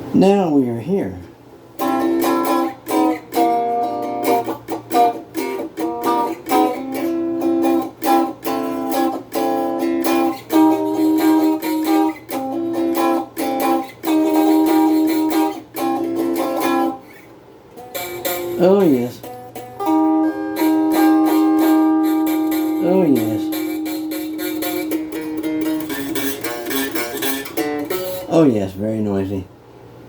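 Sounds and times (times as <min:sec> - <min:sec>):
electric guitar strumming choppy chords: 0:01.8 - 0:28.5.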